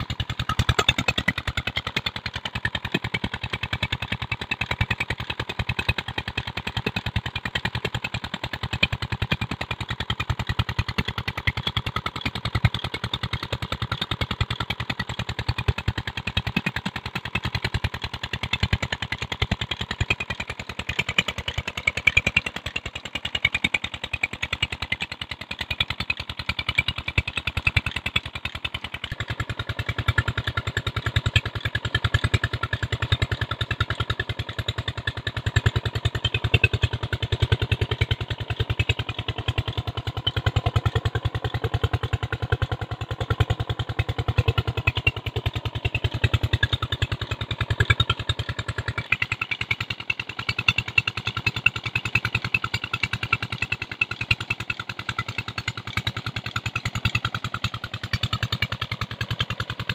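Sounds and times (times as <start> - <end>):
diesel engine exhaust thumping: 10.8 - 59.9.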